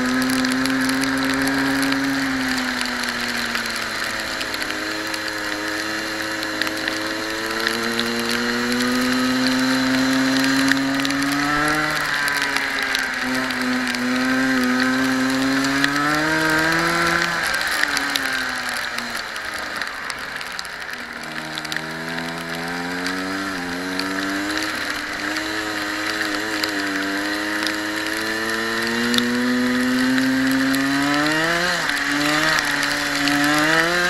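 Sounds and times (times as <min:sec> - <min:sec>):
racing kart engine: 0:00.0 - 0:34.0.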